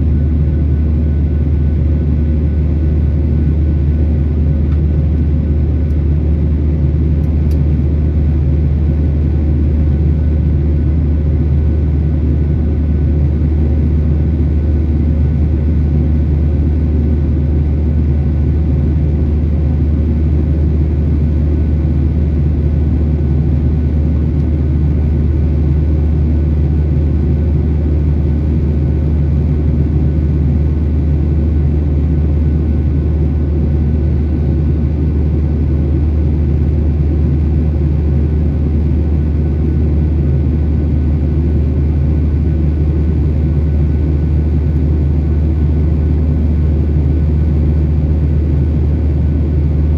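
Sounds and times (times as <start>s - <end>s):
jet engines droning in cabin: 0.0s - 49.9s.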